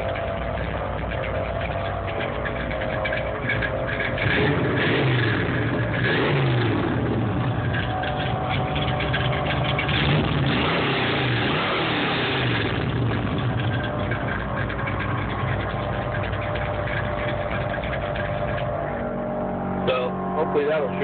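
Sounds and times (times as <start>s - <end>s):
pickup engine revving: 0.0s - 21.0s.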